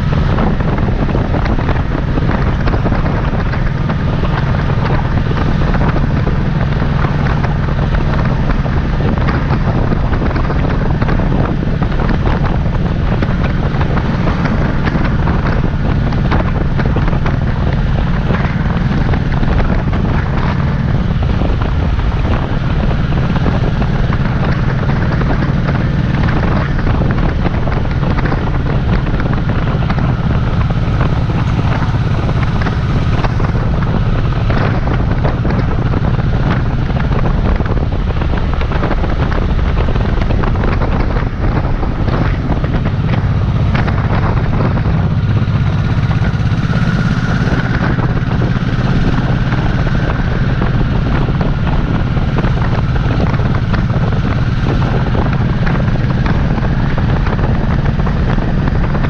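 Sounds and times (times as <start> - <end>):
motorcycle engine running steadily: 0.0 - 59.0
wind rushing over microphone: 0.0 - 59.0.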